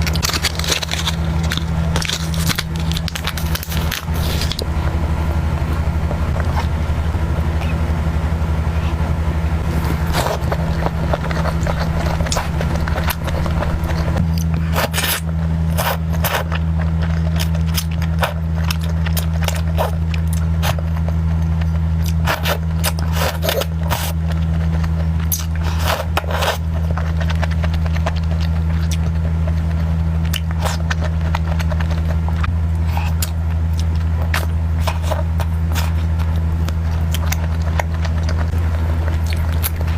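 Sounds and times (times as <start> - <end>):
crunching and chewing food: 0.0 - 7.8, 9.6 - 39.9
steady low hum: 0.0 - 39.9.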